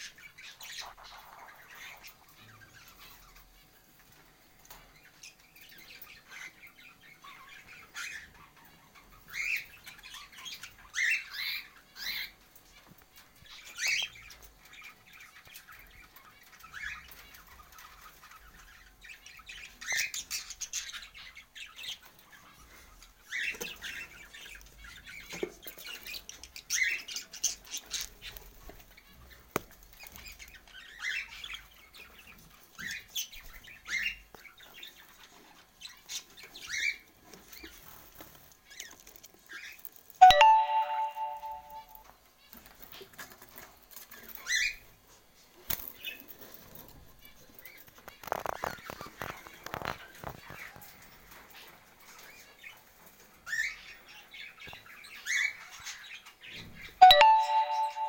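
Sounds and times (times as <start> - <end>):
birds chirping and squawking: 0.0 - 4.1, 4.7 - 39.8, 45.9 - 57.6.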